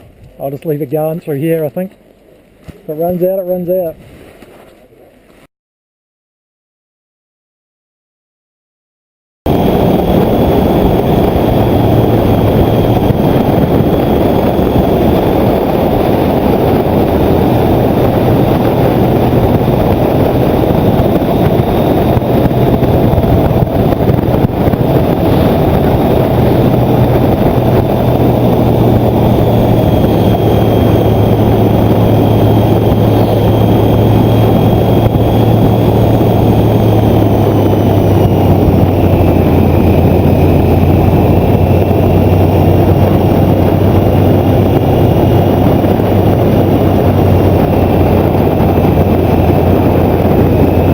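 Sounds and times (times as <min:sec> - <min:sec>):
motorcycle engine drone: 0:09.5 - 0:50.9
wind rush over microphone: 0:09.5 - 0:50.9.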